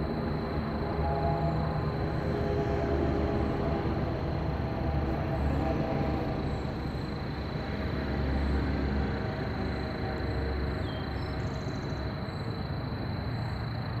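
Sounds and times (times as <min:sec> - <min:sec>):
distant machinery rumble: 0:00.0 - 0:14.0.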